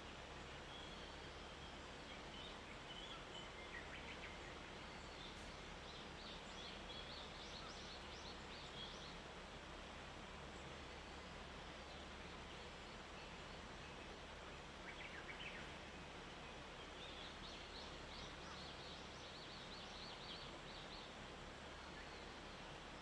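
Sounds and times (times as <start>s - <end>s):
small birds chirping: 0.0s - 9.4s, 10.5s - 23.0s.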